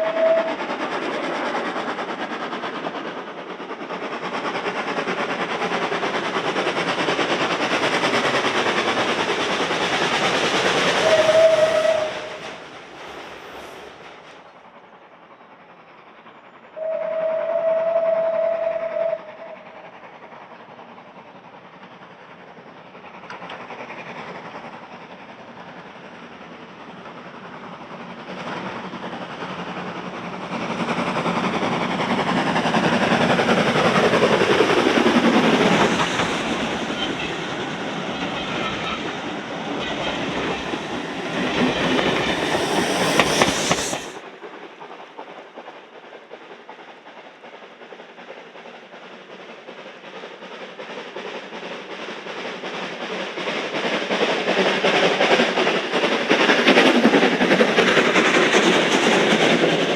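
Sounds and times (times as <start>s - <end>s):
train wheels clattering over rails: 0.0s - 14.8s, 19.7s - 59.9s.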